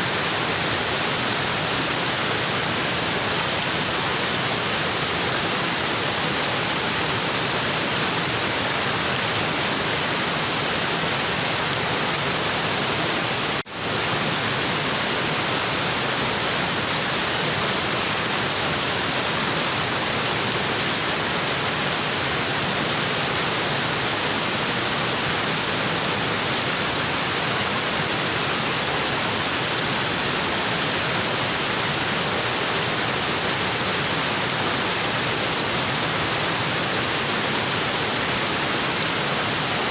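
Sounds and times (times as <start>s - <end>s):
waterfall rushing onto rocks: 0.0s - 39.9s.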